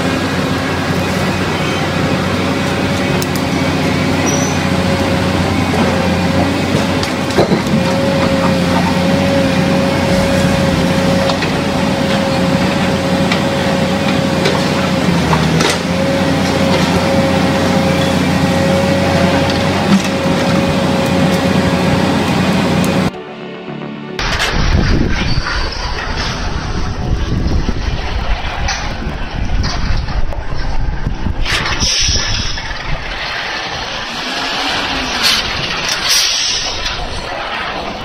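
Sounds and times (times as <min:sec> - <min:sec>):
diesel engine under load: 0:00.0 - 0:23.2, 0:24.2 - 0:38.0
high whine: 0:00.0 - 0:38.0.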